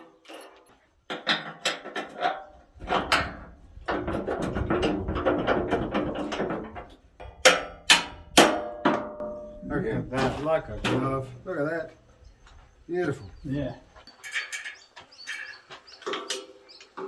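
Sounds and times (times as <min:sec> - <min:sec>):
metal scraping and rattling: 0:00.0 - 0:11.7, 0:14.1 - 0:17.0.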